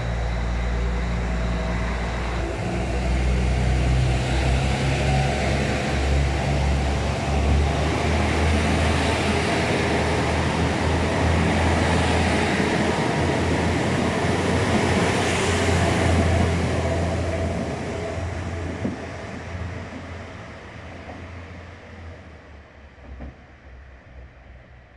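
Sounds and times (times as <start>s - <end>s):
diesel train accelerating: 0.0s - 24.9s.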